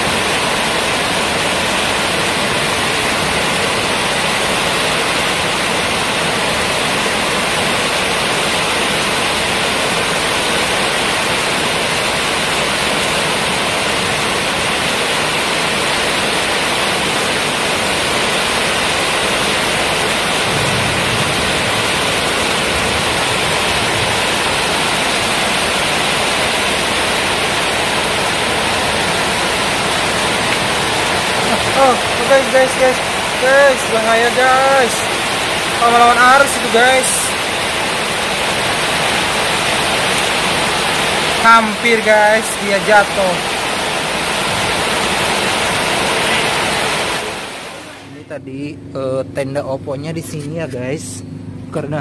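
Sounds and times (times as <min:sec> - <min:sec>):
heavy rain pouring: 0:00.0 - 0:48.4.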